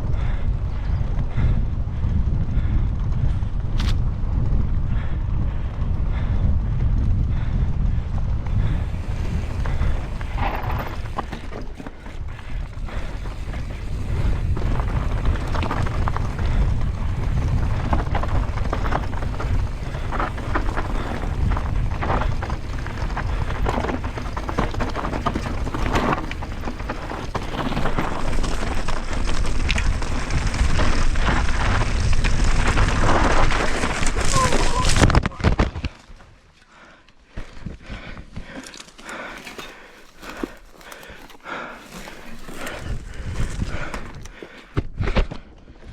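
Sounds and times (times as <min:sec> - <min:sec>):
wind buffeting microphone: 0:00.0 - 0:35.9, 0:37.4 - 0:45.2
bike knocking and rattling: 0:01.2 - 0:36.3, 0:37.3 - 0:45.5.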